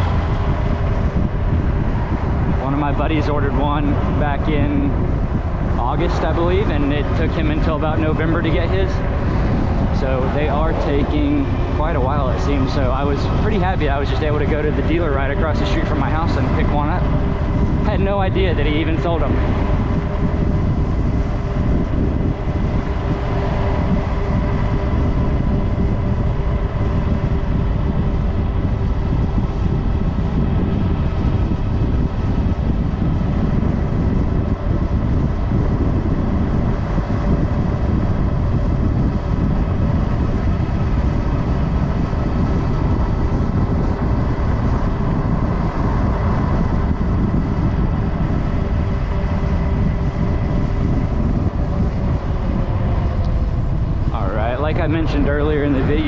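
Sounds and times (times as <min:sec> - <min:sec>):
faint steady whine: 0:00.0 - 0:56.0
rushing wind and road noise: 0:00.0 - 0:56.0.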